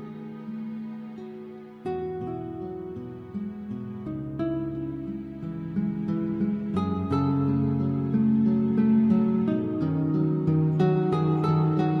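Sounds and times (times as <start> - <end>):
soft plucked string music: 0.0 - 12.0.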